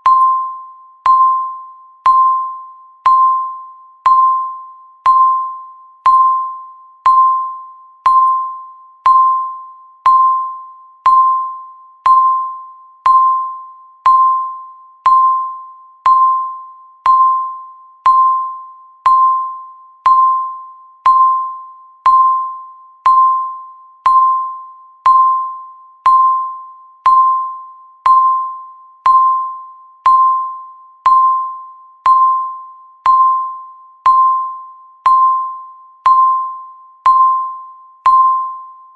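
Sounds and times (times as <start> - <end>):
bell-like timer ding: 0.0 - 38.9.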